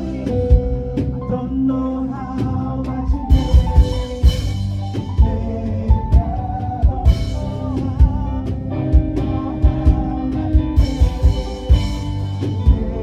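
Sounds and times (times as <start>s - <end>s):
drum kit beat: 0.0s - 13.0s
worship band music: 0.0s - 13.0s.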